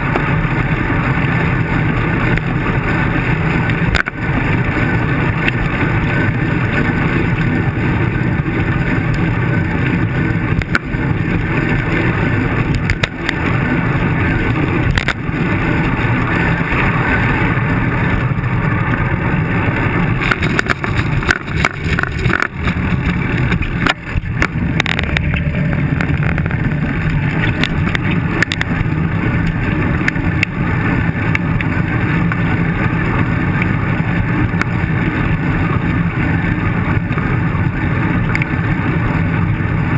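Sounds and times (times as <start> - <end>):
road noise and wind rumble: 0.0 - 39.9.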